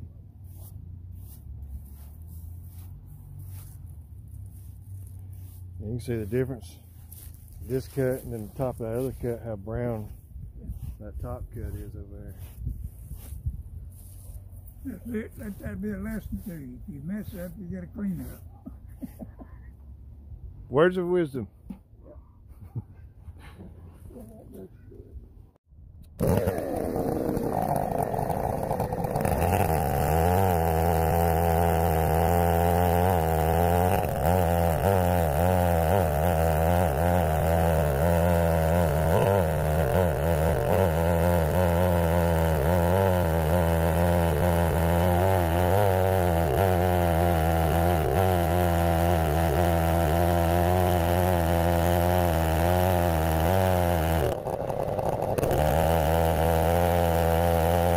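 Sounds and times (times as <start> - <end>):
chainsaw cutting log: 0.5 - 18.4, 26.0 - 57.9.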